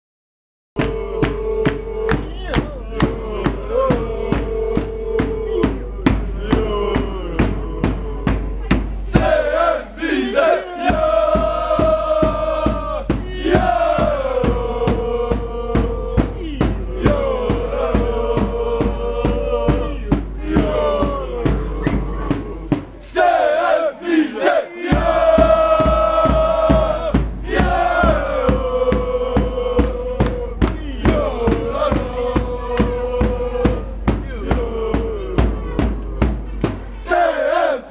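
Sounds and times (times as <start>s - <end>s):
football supporters chanting: 0.8s - 37.9s
steady drum beat: 0.8s - 37.9s.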